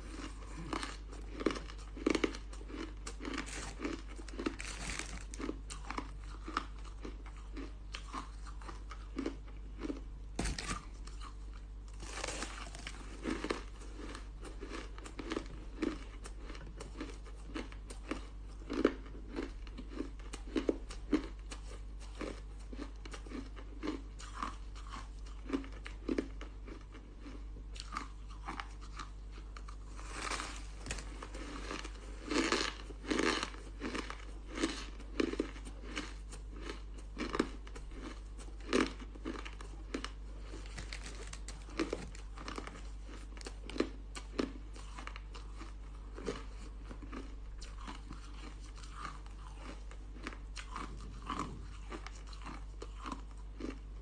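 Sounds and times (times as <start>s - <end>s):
crunching and chewing ice: 0.0s - 54.0s
steady low hum: 0.0s - 54.0s.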